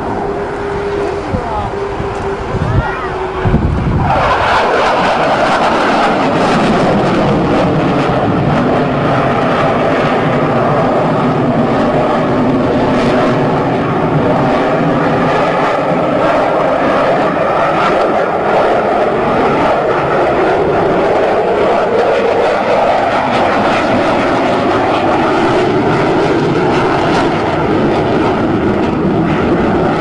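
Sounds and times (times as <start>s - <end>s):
fighter jet engine noise: 0.0s - 30.0s.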